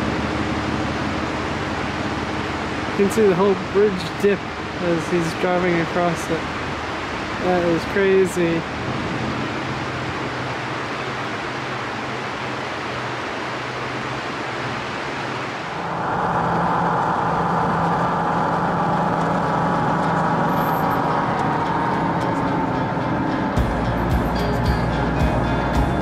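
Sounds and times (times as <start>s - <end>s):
rushing river water: 0.0s - 26.0s
vehicle engine running: 0.0s - 26.0s.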